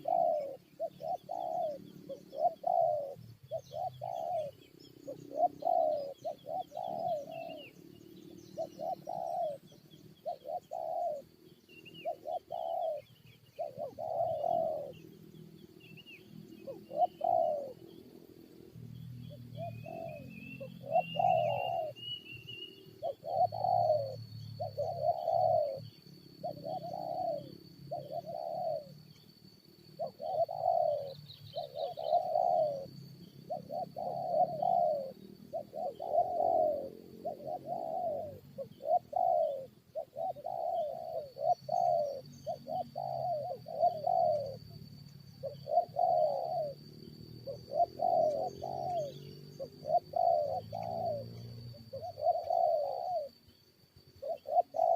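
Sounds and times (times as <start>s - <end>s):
dove cooing: 0.0s - 29.2s, 29.8s - 54.9s.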